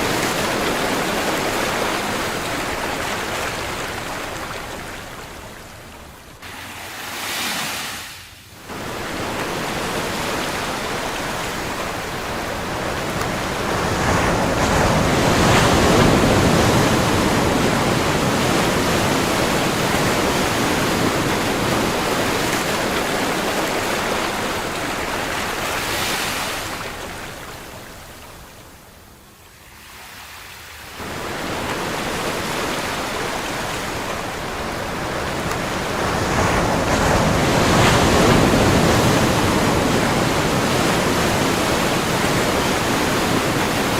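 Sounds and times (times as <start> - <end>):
ocean waves washing on shore: 0.0 - 43.9.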